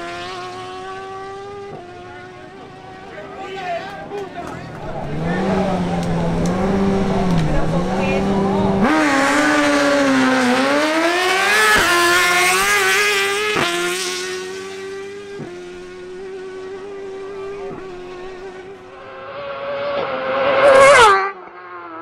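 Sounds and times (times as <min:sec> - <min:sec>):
motorcycle engine accelerating: 0:00.0 - 0:03.4, 0:04.0 - 0:22.0.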